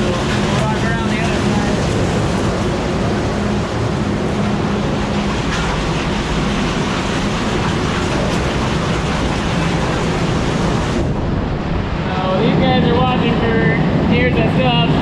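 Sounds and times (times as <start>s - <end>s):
loud machine din: 0.0s - 14.2s
low engine hum: 0.0s - 14.4s.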